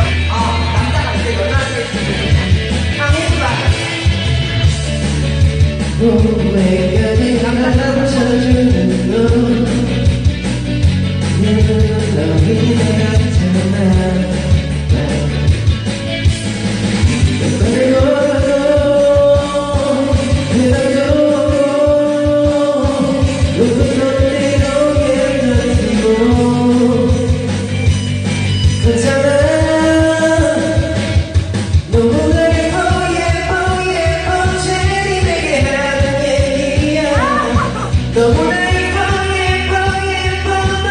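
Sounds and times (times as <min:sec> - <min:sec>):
karaoke backing track with beat: 0:00.0 - 0:40.9.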